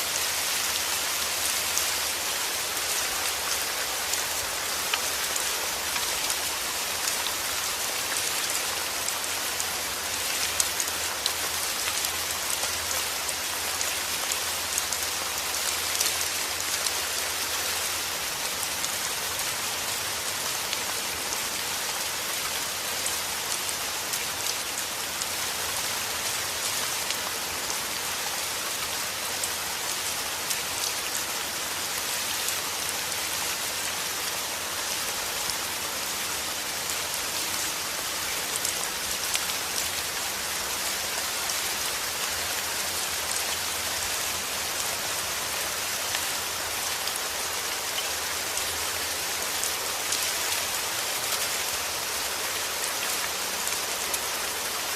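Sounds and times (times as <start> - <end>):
heavy rain: 0.0 - 54.9.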